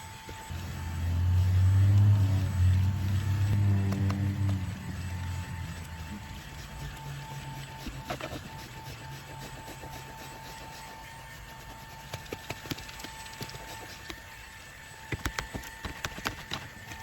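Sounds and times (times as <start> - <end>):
handheld vacuum cleaner whine: 0.0 - 17.0.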